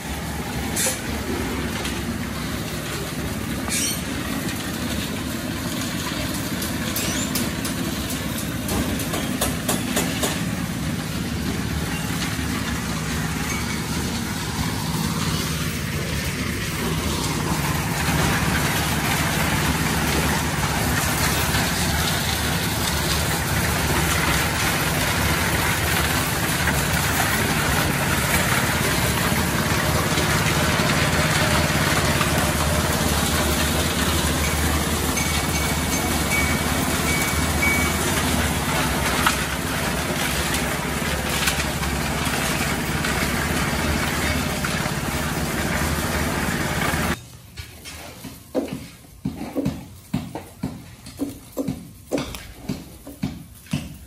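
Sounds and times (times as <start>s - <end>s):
concrete mixer engine drone: 0.0s - 54.0s.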